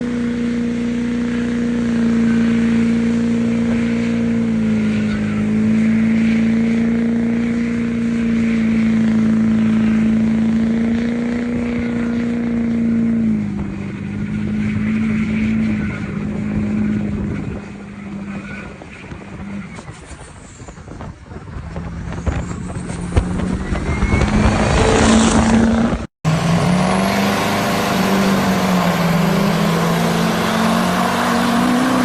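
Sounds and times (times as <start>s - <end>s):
engine at high revs: 0.0s - 20.0s, 21.6s - 32.0s.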